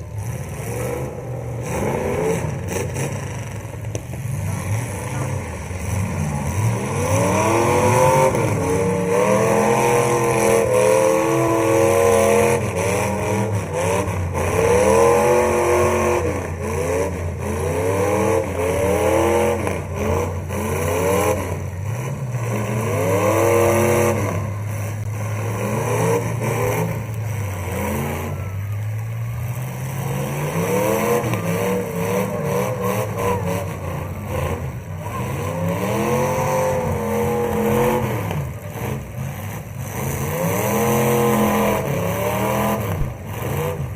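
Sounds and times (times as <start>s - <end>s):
car engines revving: 0.0s - 43.9s
engine drone: 0.0s - 43.9s.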